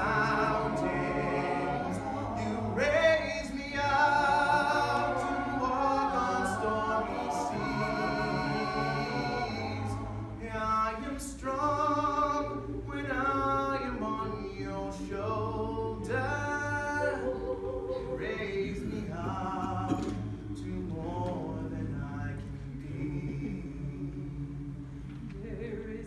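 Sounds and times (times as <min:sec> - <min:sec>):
choir singing a cappella: 0:00.0 - 0:26.0.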